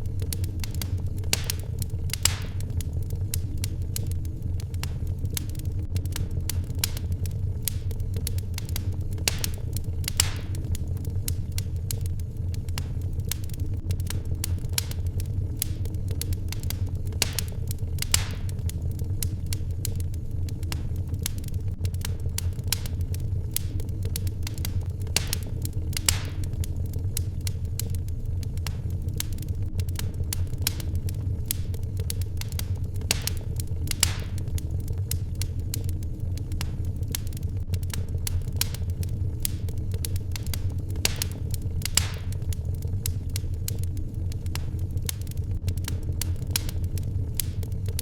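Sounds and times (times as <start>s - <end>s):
fire hissing: 0.0s - 48.0s
wood fire crackling and popping: 0.0s - 48.0s.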